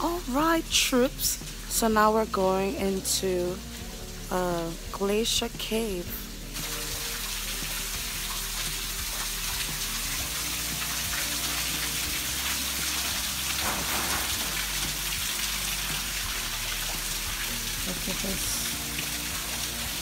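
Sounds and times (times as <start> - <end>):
meltwater running and dripping: 0.0 - 20.0.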